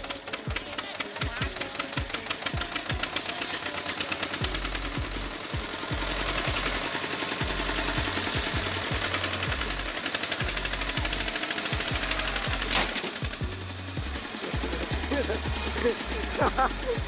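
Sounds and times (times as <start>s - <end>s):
tractor diesel engine clatter: 0.0s - 17.0s.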